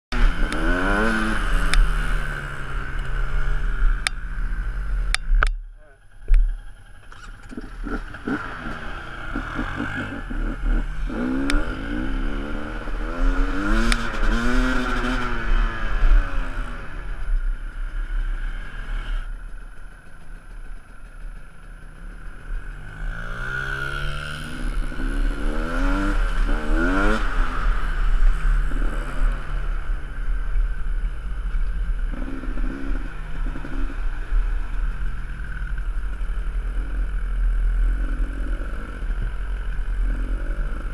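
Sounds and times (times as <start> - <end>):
dirt bike engines revving: 0.1 - 40.9.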